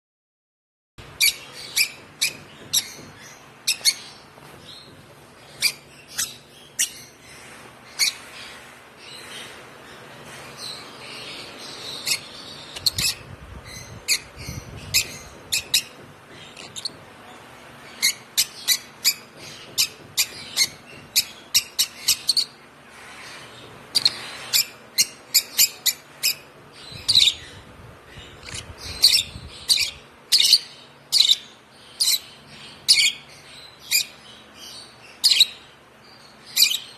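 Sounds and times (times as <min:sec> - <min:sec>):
bird chick chirping: 0:01.0 - 0:36.9.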